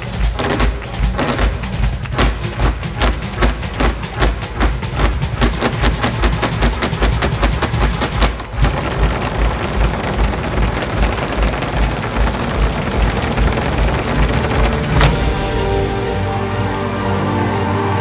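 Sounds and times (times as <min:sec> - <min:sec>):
flamenco footwork strikes: 0:00.0 - 0:15.9.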